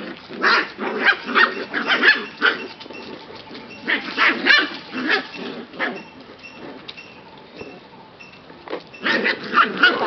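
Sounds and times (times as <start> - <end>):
puppies barking and yipping: 0.0 - 7.9, 8.7 - 10.0.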